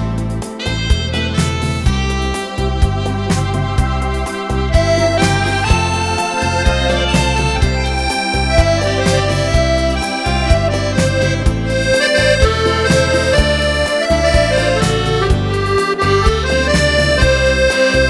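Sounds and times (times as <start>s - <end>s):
accordion melody: 0.0s - 18.0s
bass accompaniment: 0.0s - 18.0s
regular beat: 0.0s - 18.0s.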